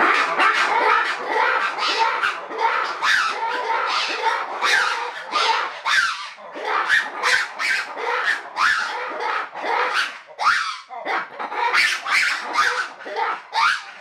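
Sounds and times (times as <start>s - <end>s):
lemurs roaring call: 0.0s - 14.0s.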